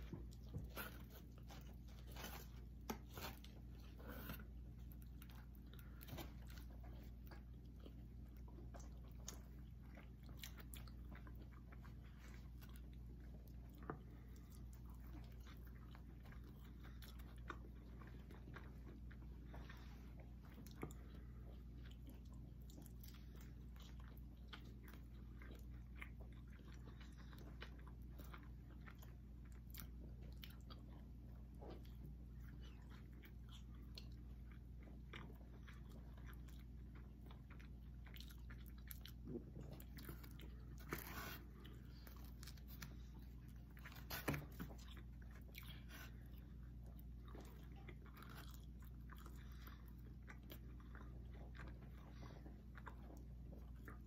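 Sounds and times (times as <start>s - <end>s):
people chewing food: 0.0s - 54.0s
steady low hum: 0.0s - 54.0s.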